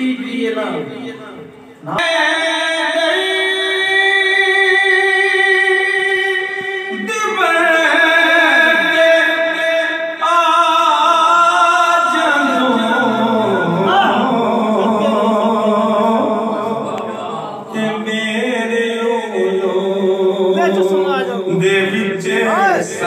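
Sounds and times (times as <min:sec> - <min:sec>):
man singing unaccompanied: 0:01.9 - 0:23.0.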